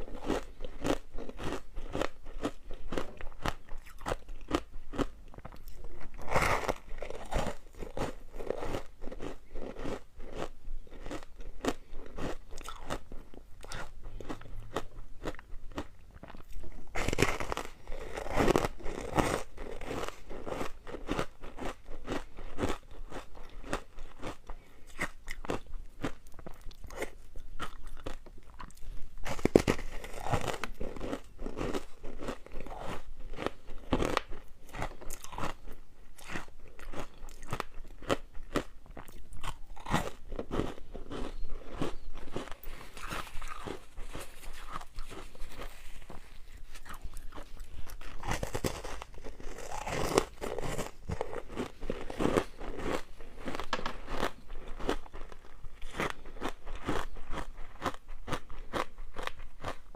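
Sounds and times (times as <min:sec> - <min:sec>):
ice being chewed and crunched: 0:00.0 - 0:59.9.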